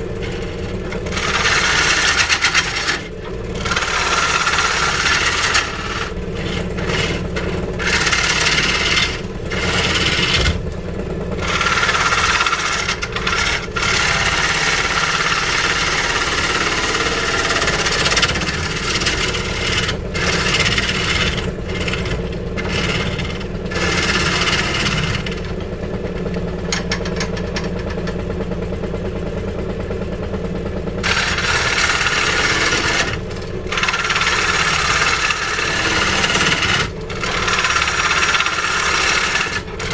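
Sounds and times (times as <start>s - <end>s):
saw scraping through wood: 0.0s - 29.4s, 30.9s - 39.9s
power tool motor running: 0.0s - 39.9s.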